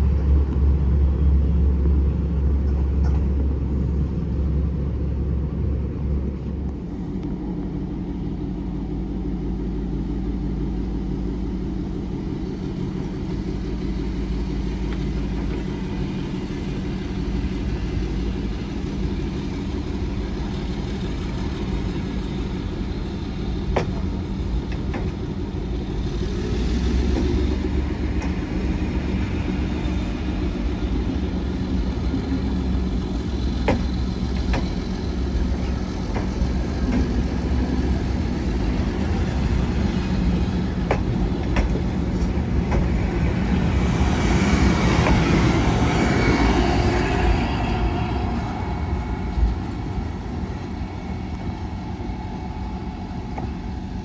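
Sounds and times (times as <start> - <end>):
diesel train engine idling: 0.0 - 54.0.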